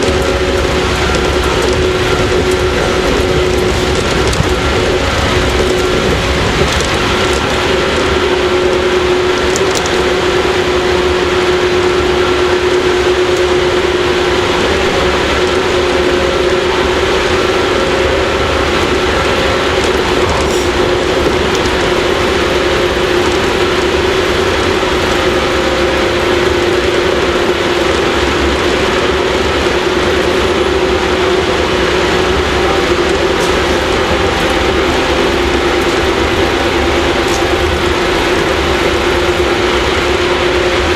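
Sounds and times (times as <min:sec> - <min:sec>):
traction motors humming: 0:00.0 - 0:40.9
wheel and rail noise: 0:00.0 - 0:40.9.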